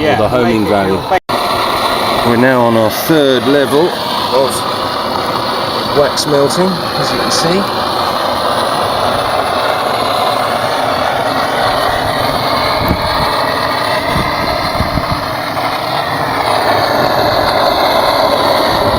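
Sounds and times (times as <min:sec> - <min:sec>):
blowtorch hissing: 0:00.0 - 0:18.9.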